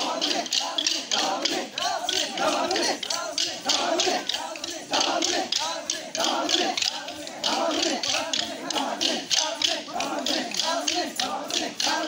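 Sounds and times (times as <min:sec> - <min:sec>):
dance sticks clacking: 0:00.0 - 0:12.0
group of voices chanting: 0:00.0 - 0:12.0.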